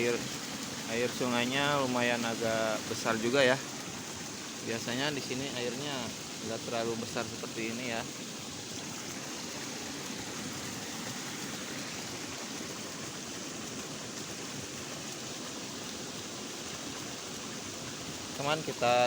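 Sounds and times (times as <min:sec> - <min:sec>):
water rushing in a ditch: 0:00.0 - 0:19.0.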